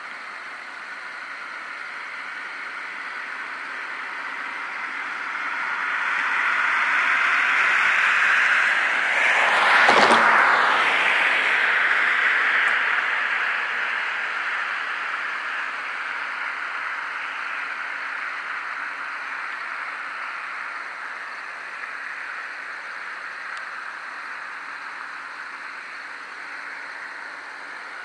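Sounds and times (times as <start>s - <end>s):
crickets chirping: 0.0s - 28.0s
vehicle tyre noise passing: 0.7s - 28.0s.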